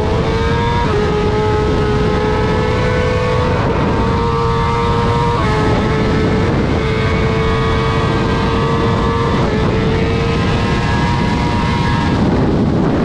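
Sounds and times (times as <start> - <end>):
motorcycle engine at high revs: 0.0 - 13.0
wind rush on microphone: 0.0 - 13.0.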